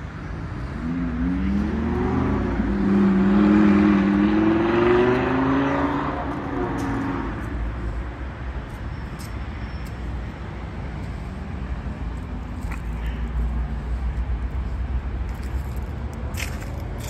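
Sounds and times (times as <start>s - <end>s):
faint vehicle engine: 0.0s - 17.0s
road traffic rumble: 0.0s - 17.0s.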